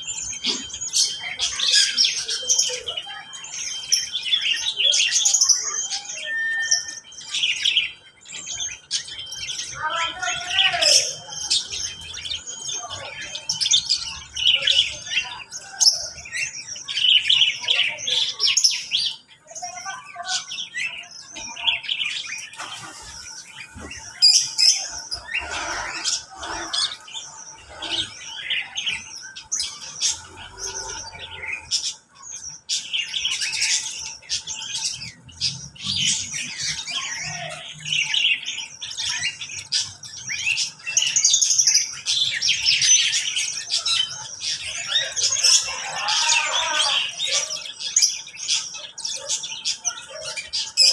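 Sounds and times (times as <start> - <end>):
cage birds chirping: 0.0 - 50.9.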